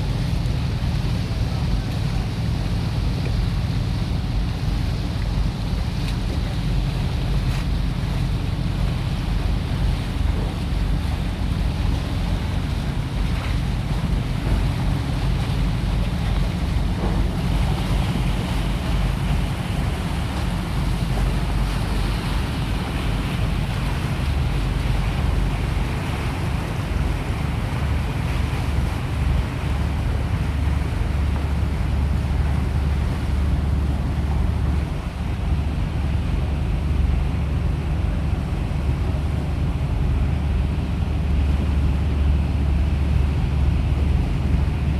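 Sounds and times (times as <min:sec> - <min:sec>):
boat engine rumbling: 0:00.0 - 0:44.9
water rushing past hull: 0:00.0 - 0:44.9.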